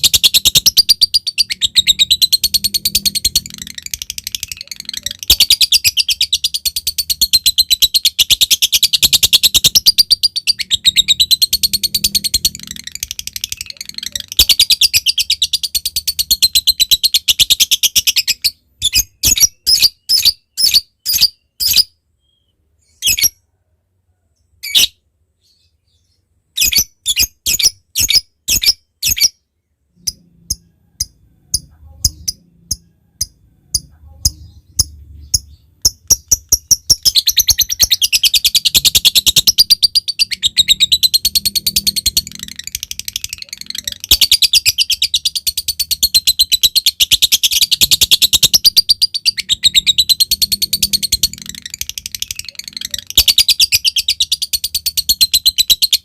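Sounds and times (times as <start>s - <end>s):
lovebird chattering trill: 0.0s - 21.9s, 30.0s - 56.0s
sharp bird calls: 0.0s - 23.4s, 24.6s - 56.0s.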